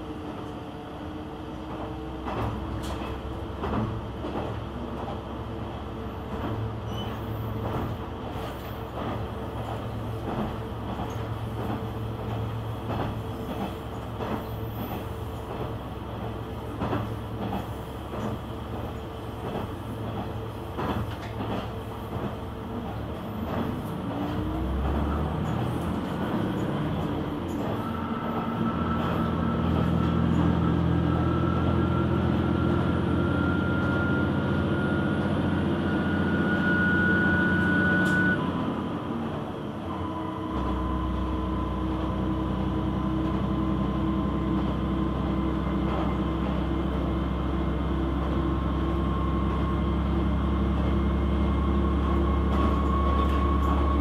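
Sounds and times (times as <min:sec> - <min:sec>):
train rolling noise: 0:00.0 - 0:54.0.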